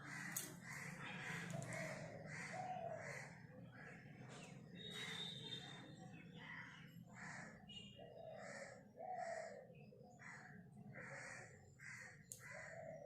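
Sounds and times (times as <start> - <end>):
faint harsh bird calls: 0.0 - 13.0.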